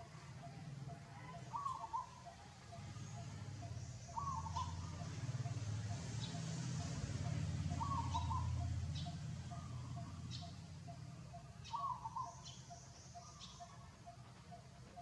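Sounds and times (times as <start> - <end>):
bird call: 0.0 - 15.0.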